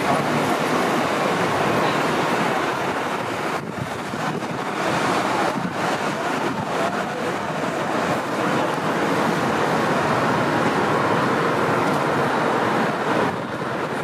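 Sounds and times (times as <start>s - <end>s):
passing cars: 0.0s - 14.0s
wind buffeting microphone: 0.0s - 14.0s.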